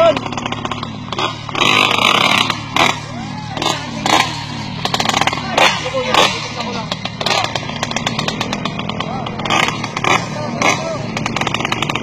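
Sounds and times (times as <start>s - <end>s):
motorcycle engines idling: 0.0s - 12.0s
people's voices: 2.0s - 12.0s.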